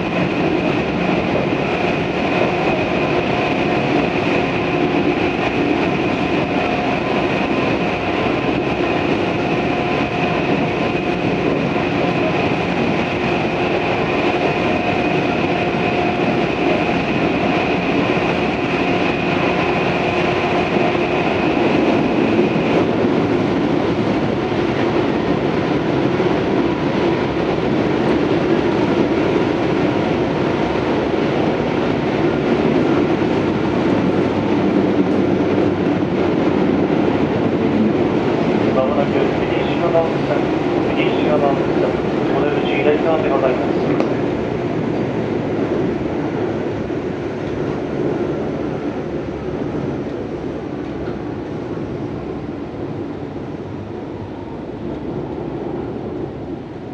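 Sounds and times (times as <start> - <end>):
steady high whine: 0.0 - 56.9
train wheel-on-rail rumble: 0.0 - 56.9.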